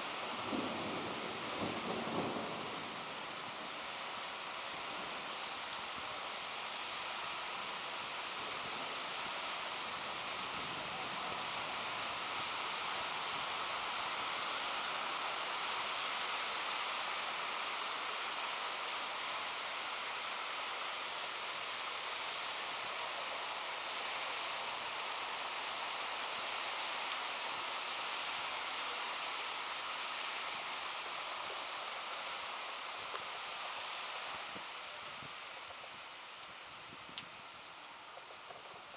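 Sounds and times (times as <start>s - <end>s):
raindrops ticking close by: 0.0s - 38.9s
steady rain falling: 0.0s - 38.9s.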